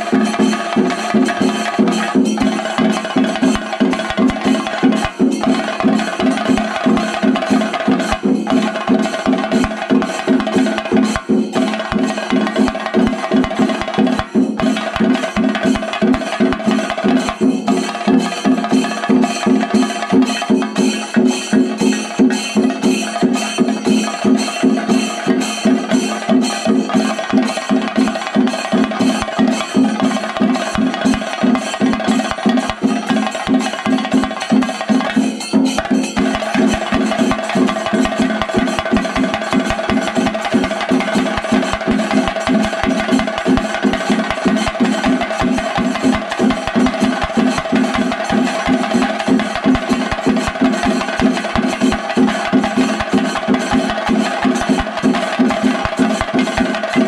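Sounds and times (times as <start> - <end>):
fast continuous drumming: 0.0 - 57.0.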